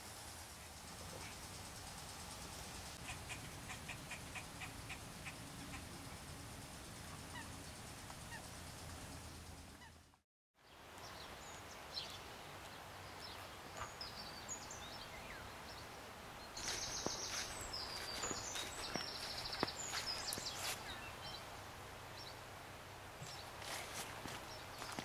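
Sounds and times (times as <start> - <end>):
faint outdoor ambience: 0.0 - 25.0
small birds chirping: 2.9 - 22.5, 23.2 - 25.0.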